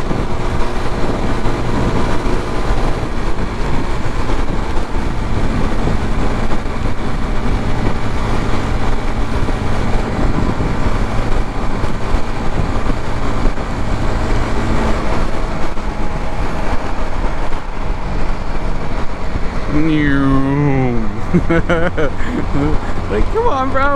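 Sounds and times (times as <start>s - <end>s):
motorcycle engine running: 0.0s - 20.6s
wind rush over microphone: 0.0s - 23.9s.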